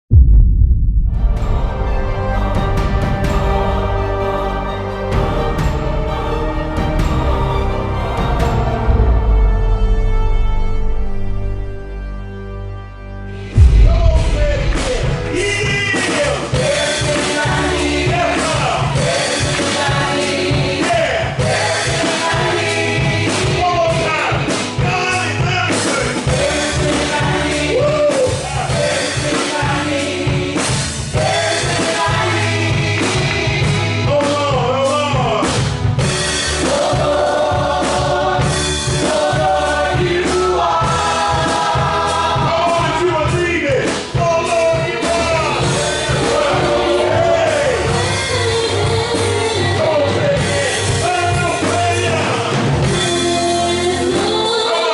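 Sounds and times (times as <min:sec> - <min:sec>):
full band with steady beat: 0:00.1 - 0:12.4, 0:13.3 - 0:54.9
gospel voices singing: 0:01.5 - 0:12.0, 0:13.4 - 0:54.9.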